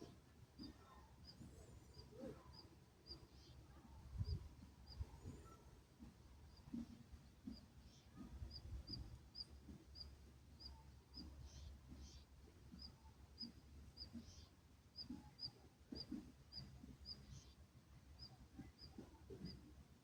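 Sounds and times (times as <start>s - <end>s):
small bird chirping: 0.0s - 17.6s.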